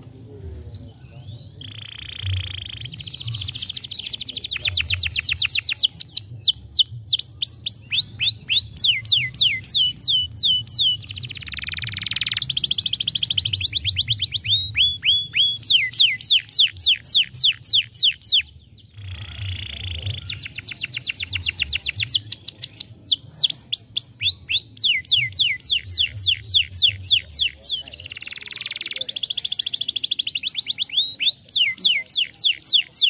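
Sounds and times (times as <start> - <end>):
canary singing trills: 0.7 - 33.0.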